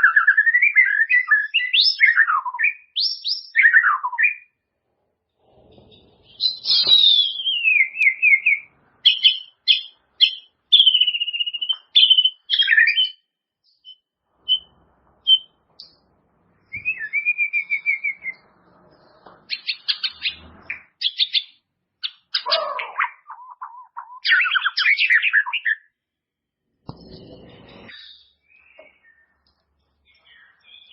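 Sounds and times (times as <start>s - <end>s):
songbird whistling and trilling: 0.0s - 4.6s, 6.2s - 16.0s, 16.6s - 26.0s, 27.0s - 30.9s.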